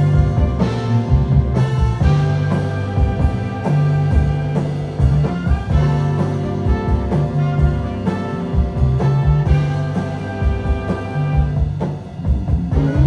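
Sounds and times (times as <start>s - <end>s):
jazz big band playing: 0.0s - 13.0s.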